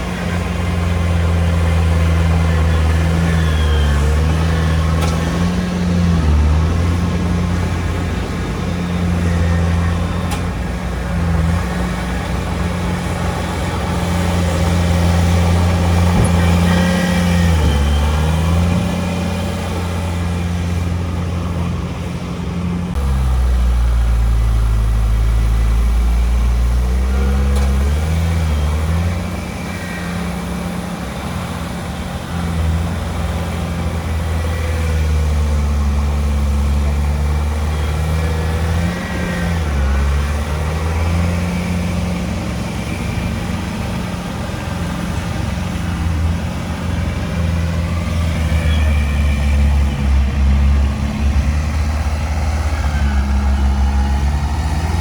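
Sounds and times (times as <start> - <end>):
heavy diesel engine: 0.0 - 55.0.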